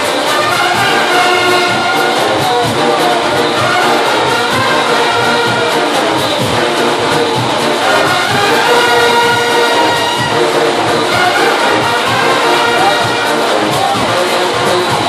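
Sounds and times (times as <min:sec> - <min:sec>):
brass horns playing: 0:00.0 - 0:15.0
percussion beat: 0:00.0 - 0:15.0.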